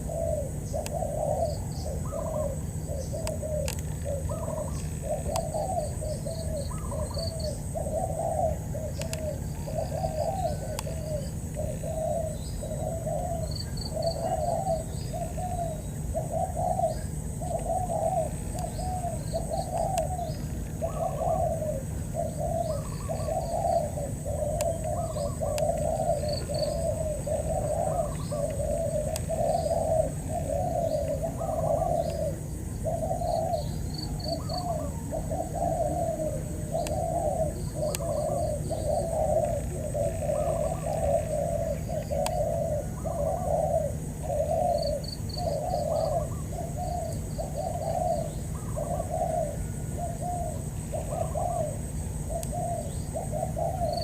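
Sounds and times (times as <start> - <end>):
doves cooing: 0.0 - 54.0
small birds chirping: 0.0 - 54.0.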